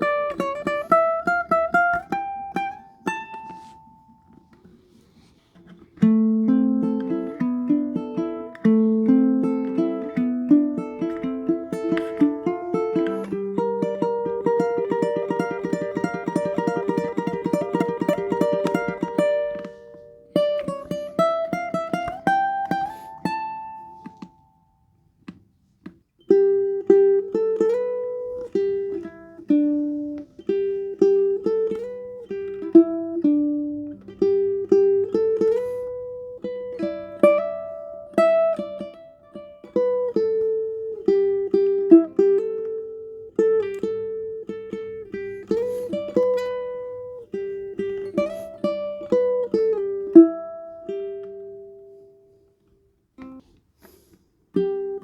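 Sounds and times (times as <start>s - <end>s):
ukulele picking: 0.0s - 55.0s.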